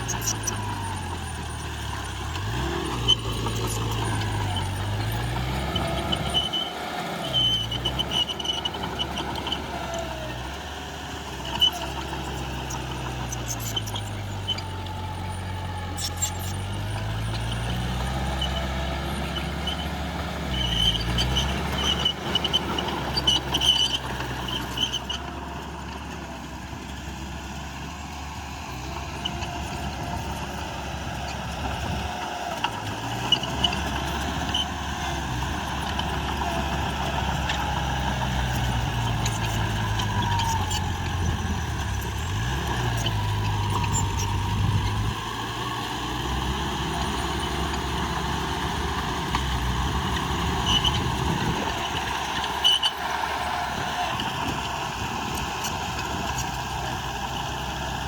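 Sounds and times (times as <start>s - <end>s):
squeaks and clanks: 0.0s - 57.6s
heavy diesel machine engine: 0.0s - 58.0s.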